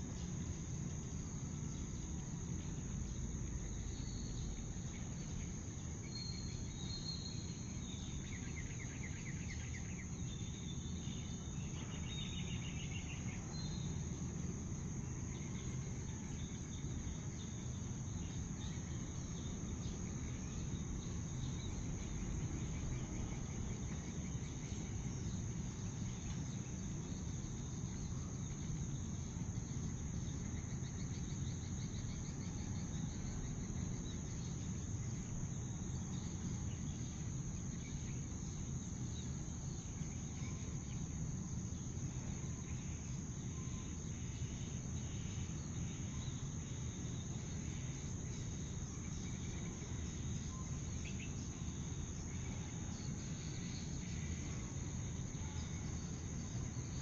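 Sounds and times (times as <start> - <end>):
constant low rumble: 0.0 - 57.0
high-pitched insect chorus: 0.0 - 57.0.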